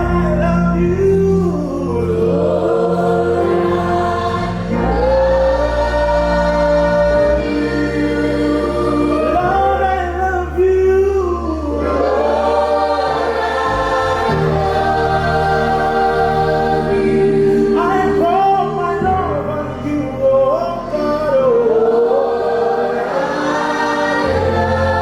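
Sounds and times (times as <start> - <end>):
choir singing held notes: 0.0 - 10.6, 11.2 - 25.0
low bass accompaniment: 0.0 - 25.0.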